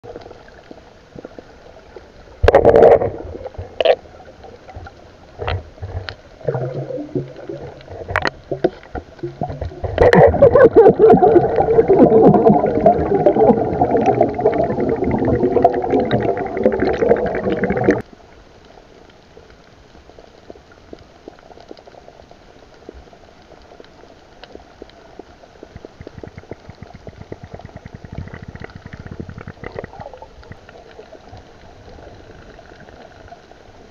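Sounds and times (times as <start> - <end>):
underwater air bubbles gurgling: 0.0 - 18.1, 20.1 - 33.9
underwater noise: 0.0 - 33.9.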